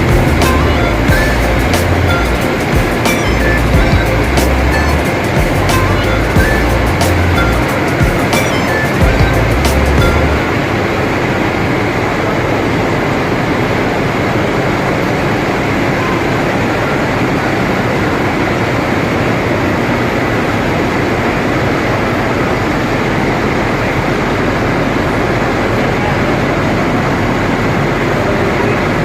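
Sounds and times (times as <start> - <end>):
vehicle in motion: 0.0 - 29.0.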